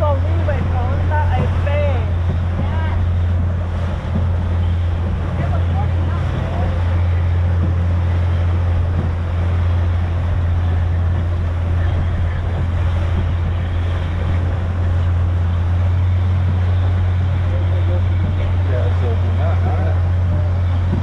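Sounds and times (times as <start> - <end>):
motorboat engine droning: 0.0 - 21.0
water and wind noise: 0.0 - 21.0.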